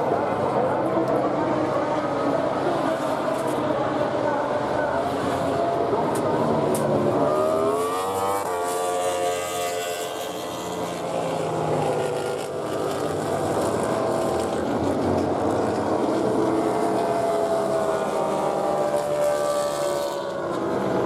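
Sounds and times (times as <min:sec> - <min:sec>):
motorcycle engines running: 0:00.0 - 0:21.0
racing motorcycle accelerating: 0:00.0 - 0:21.0.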